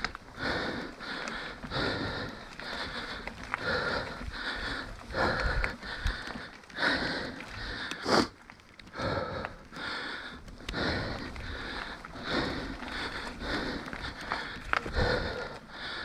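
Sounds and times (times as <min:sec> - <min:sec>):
person breathing hard: 0:00.0 - 0:16.0
tyres rumbling on dirt trail: 0:00.0 - 0:16.0.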